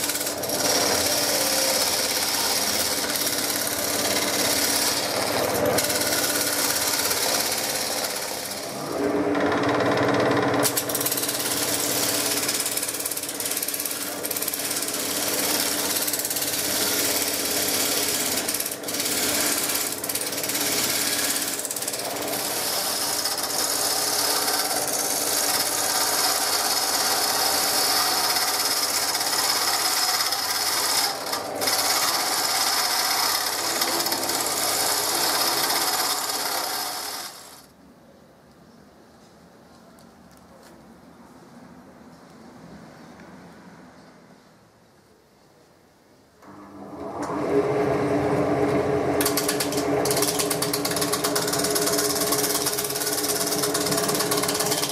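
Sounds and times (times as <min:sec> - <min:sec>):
power tool cutting wood: 0:00.0 - 0:37.7, 0:48.6 - 0:54.9.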